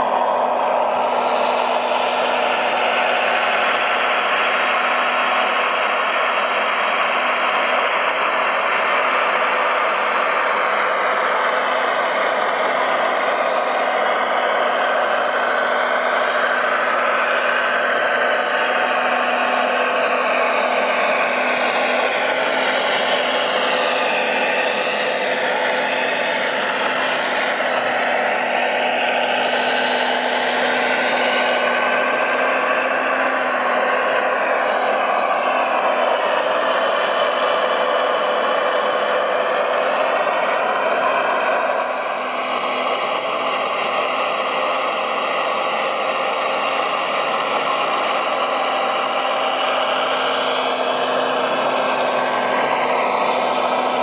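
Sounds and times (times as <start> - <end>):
model excavator whirring: 0.0 - 54.0.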